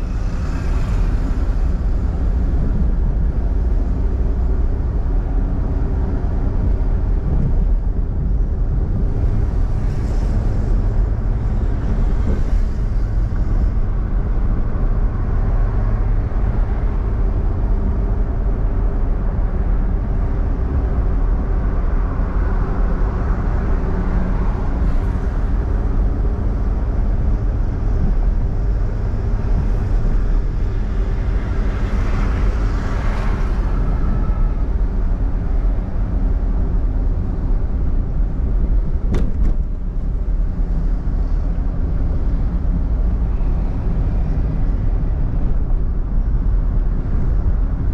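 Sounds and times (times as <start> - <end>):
car driving on road: 0.0 - 47.9.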